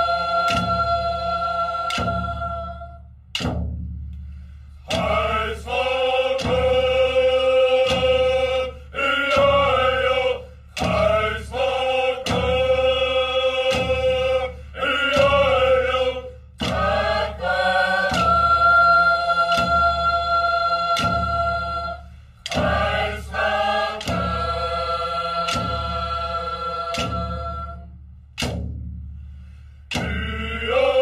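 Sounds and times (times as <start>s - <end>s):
chant-like singing: 0.0s - 3.1s, 4.8s - 27.9s, 29.9s - 31.0s
steady low accompaniment: 0.0s - 31.0s.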